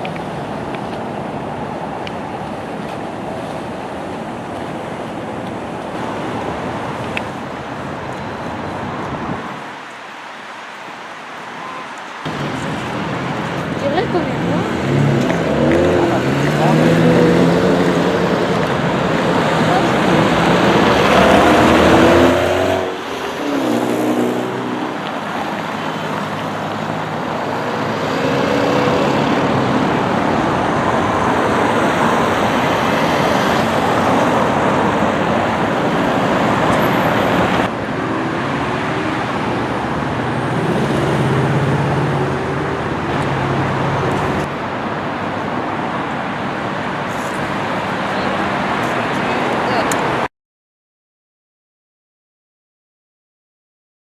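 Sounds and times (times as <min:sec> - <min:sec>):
cars passing on busy street: 0:00.0 - 0:50.3.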